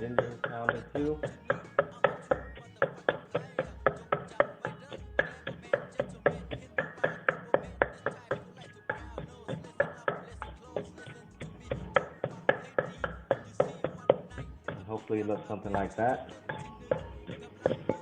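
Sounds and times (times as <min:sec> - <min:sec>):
pestle pounding in mortar: 0:00.0 - 0:18.0.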